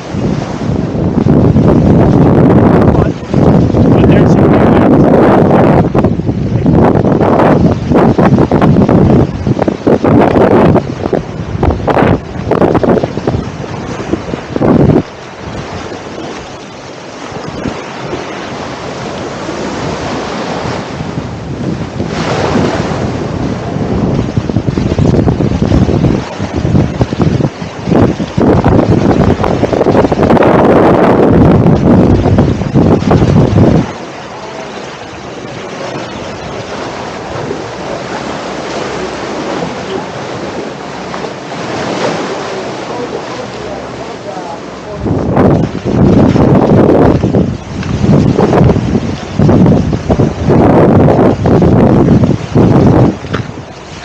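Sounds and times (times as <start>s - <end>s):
surf washing on beach: 0.0s - 54.0s
wind buffeting microphone: 0.0s - 54.0s.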